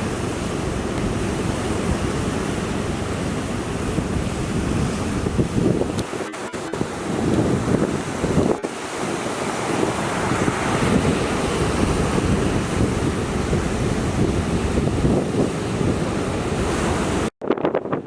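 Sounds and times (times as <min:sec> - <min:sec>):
surf crashing on shore: 0:00.0 - 0:17.3
gusty wind: 0:00.0 - 0:18.0
wind buffeting microphone: 0:00.0 - 0:18.0.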